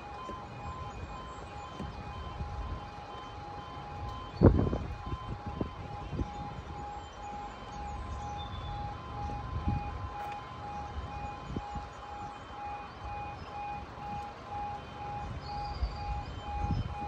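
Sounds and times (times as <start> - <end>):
car engine and road rumble: 0.0 - 17.0
level crossing alarm beeping: 0.0 - 17.0.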